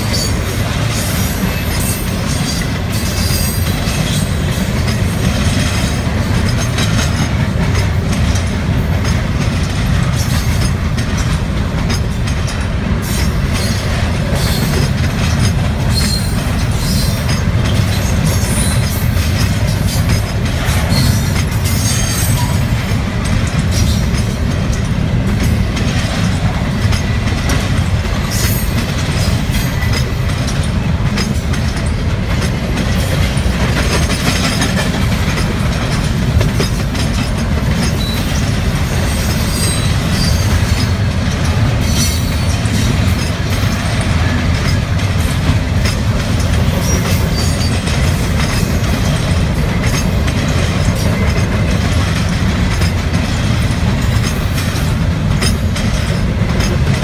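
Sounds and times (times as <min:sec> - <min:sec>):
clattering clicks of train: 0:00.0 - 0:57.0
freight train wheels rumbling: 0:00.0 - 0:57.0.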